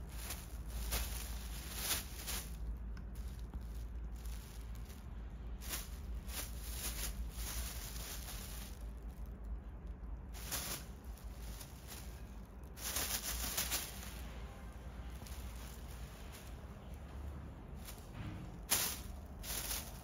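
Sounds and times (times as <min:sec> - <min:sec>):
plastic bag crinkling and rustling: 0:00.0 - 0:20.0.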